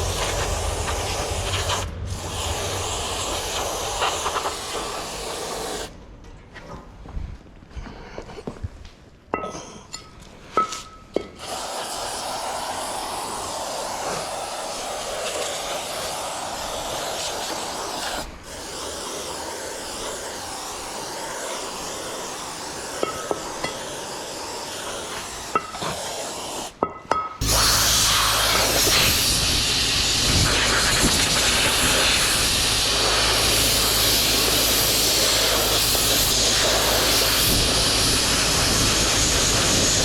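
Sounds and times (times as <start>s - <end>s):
aerosol spray hissing: 0.0s - 5.9s, 11.3s - 26.8s, 27.4s - 40.0s.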